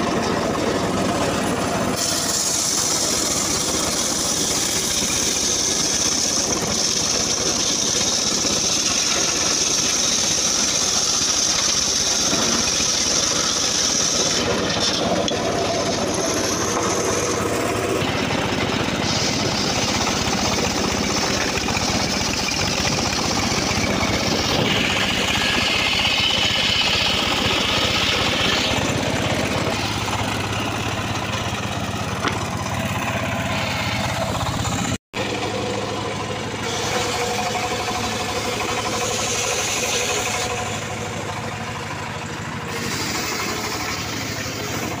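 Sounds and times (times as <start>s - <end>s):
circular saw ripping wood: 0.0s - 41.9s, 42.7s - 45.0s.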